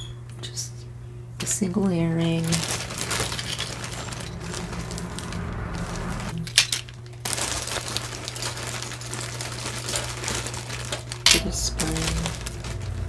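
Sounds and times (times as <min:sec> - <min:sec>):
jewelry clinking and rustling: 0:02.4 - 0:13.0.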